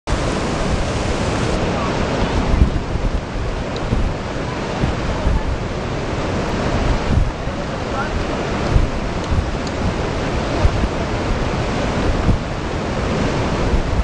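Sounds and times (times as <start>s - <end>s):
whitewater river rushing: 0.1s - 14.0s
wind buffeting microphone: 0.1s - 14.0s.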